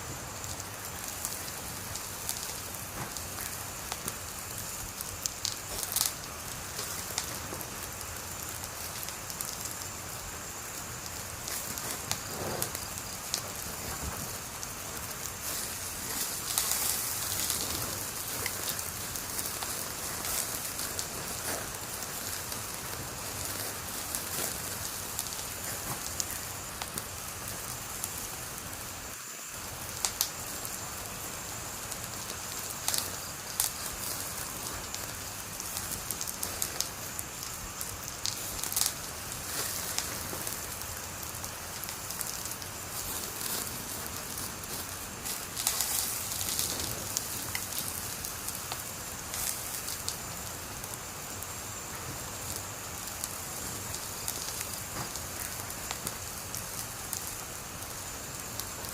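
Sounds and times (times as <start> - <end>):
sharp pops of fire: 0.0 - 58.9
wood fire crackling: 0.0 - 58.9.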